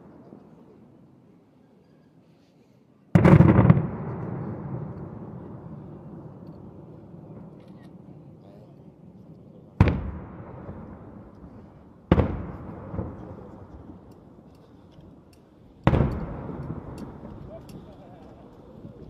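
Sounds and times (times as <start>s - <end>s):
firework bangs with rolling echo: 3.1s - 19.0s.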